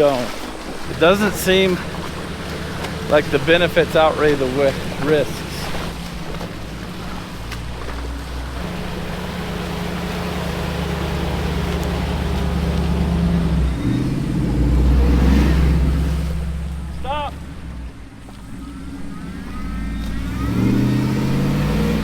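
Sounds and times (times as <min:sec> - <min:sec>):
truck engine pulling under load: 0:00.0 - 0:22.0.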